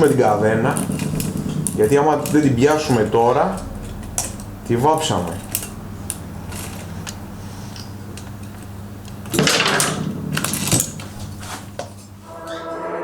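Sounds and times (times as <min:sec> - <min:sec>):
metal clatter: 0:00.0 - 0:12.5
steady low hum: 0:00.0 - 0:13.0.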